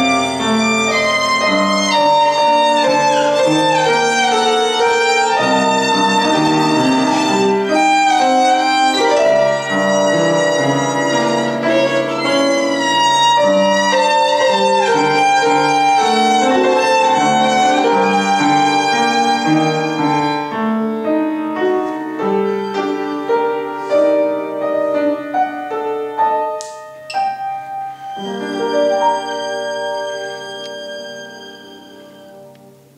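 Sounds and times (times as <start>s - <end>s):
upright piano accompaniment: 0.0s - 32.9s
violin melody: 0.0s - 32.9s.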